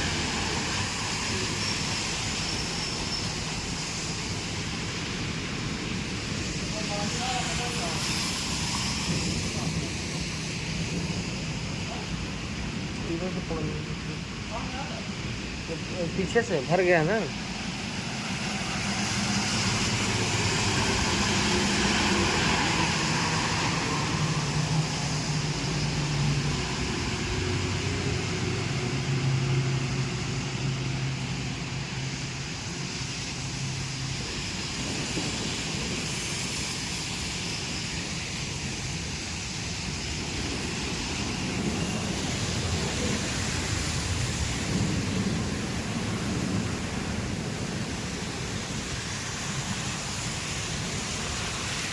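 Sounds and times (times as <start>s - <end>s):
rain hissing: 0.0s - 51.9s.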